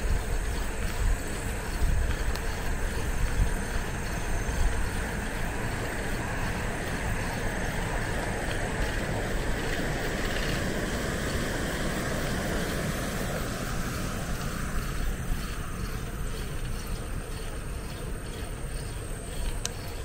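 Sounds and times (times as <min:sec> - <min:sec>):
bicycle tyres rolling on road: 0:00.0 - 0:20.0
high hiss: 0:00.0 - 0:20.0
wind rumbling on microphone: 0:00.0 - 0:20.0.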